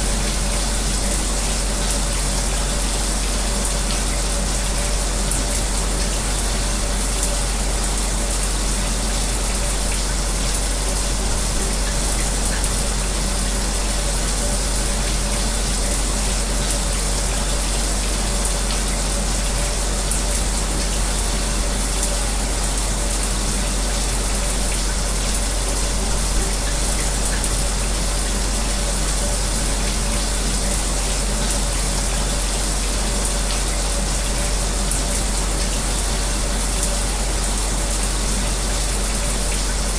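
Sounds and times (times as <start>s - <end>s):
electric fan humming: 0.0s - 39.9s.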